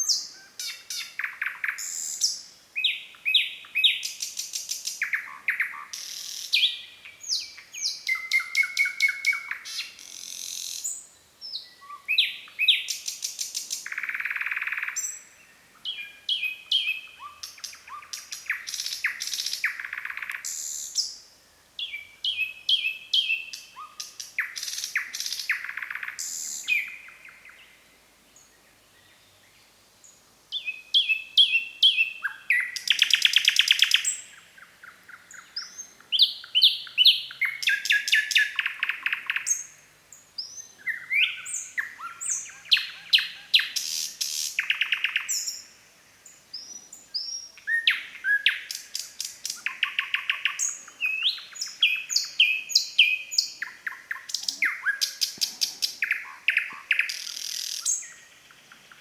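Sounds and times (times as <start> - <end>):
nightingale singing trills: 0.0 - 59.0.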